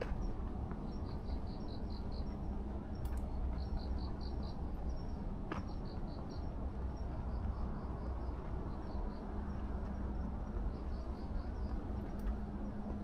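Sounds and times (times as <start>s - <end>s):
crickets chirping: 0.0s - 13.0s
low city hum: 0.0s - 13.0s.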